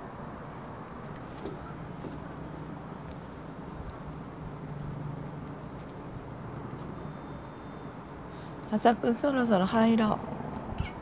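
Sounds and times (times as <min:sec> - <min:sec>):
constant low hum: 0:00.0 - 0:11.0.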